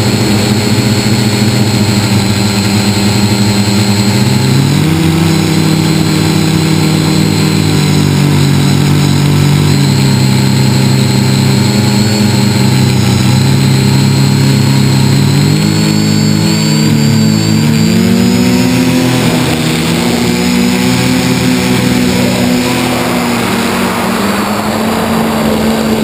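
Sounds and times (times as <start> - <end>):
model aircraft motors humming: 0.0 - 26.0.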